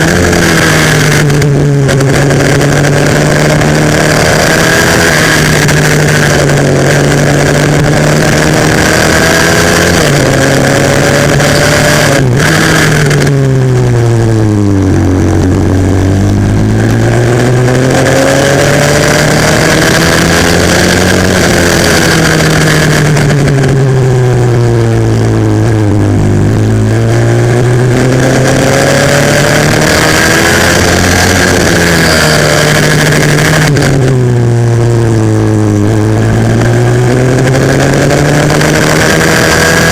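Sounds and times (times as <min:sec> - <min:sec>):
pit bike engine racing: 0:00.0 - 0:39.9.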